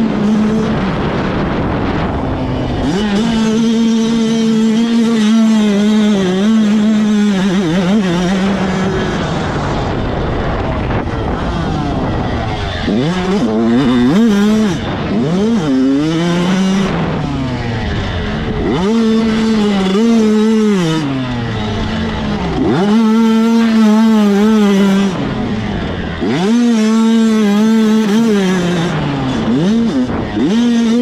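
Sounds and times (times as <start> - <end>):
motocross bikes screaming engines: 0.0 - 31.0.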